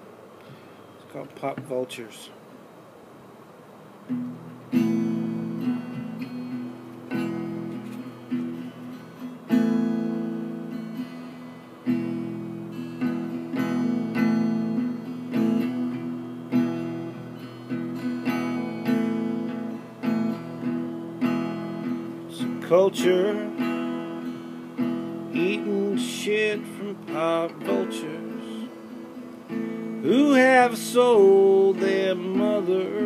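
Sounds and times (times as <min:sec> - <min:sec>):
acoustic guitar strummed: 0:04.0 - 0:33.0.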